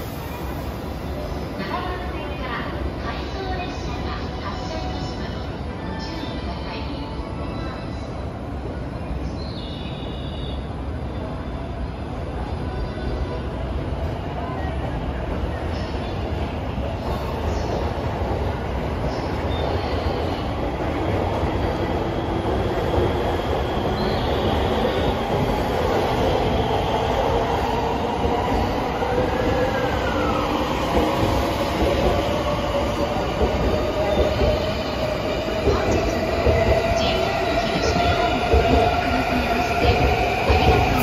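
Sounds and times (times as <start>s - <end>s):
train running noise: 0.0s - 41.0s.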